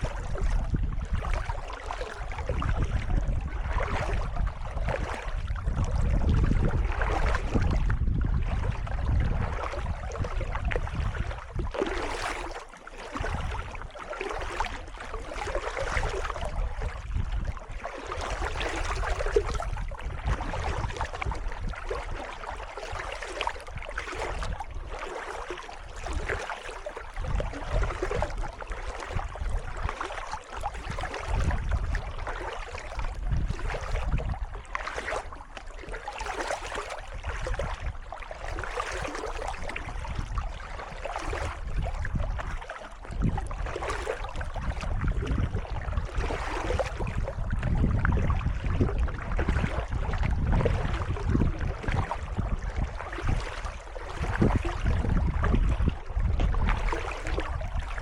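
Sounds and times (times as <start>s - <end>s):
paddle strokes splashing: 0.0s - 48.1s, 49.3s - 51.0s, 51.6s - 58.0s.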